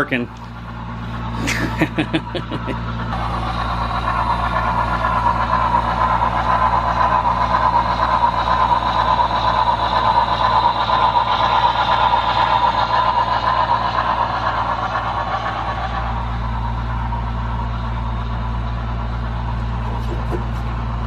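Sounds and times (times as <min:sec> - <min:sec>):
model locomotive engine sound: 0:00.0 - 0:21.0.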